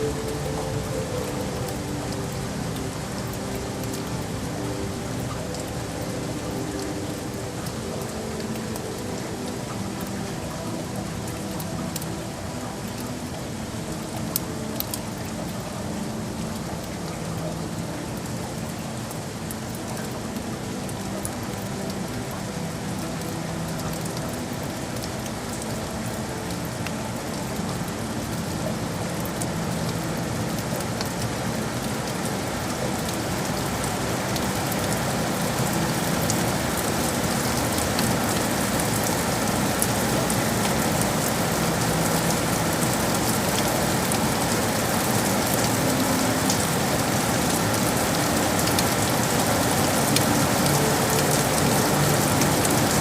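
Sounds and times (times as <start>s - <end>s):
rain on hard surfaces: 0.0s - 53.0s.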